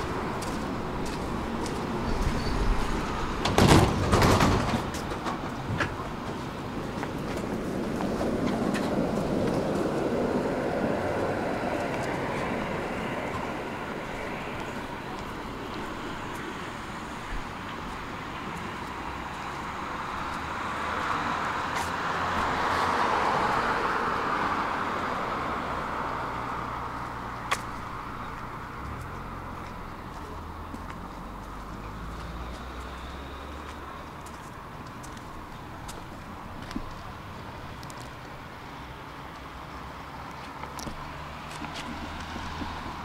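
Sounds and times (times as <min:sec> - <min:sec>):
tram rolling on track: 0:00.0 - 0:43.0.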